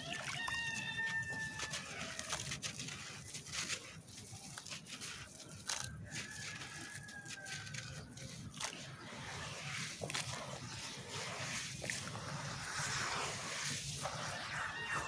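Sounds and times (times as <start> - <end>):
wet concrete crumbling by hand: 0.0 - 13.5.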